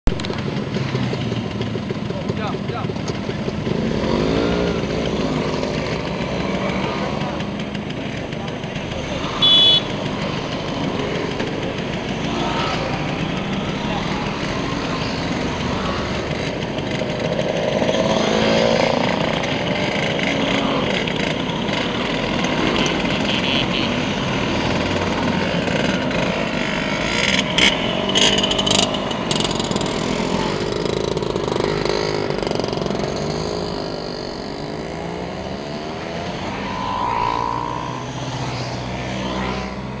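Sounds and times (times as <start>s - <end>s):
scooters riding past: 0.2s - 40.0s.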